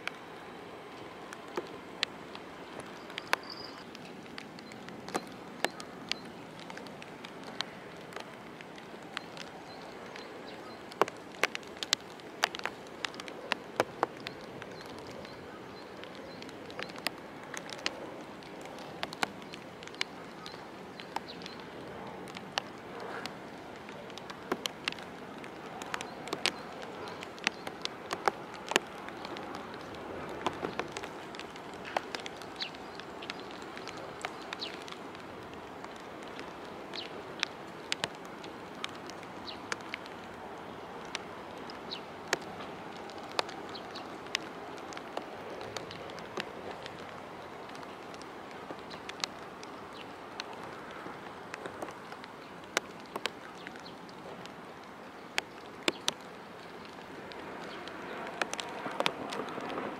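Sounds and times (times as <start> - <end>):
rain hiss: 0.0 - 59.9
raindrops ticking: 0.0 - 59.9.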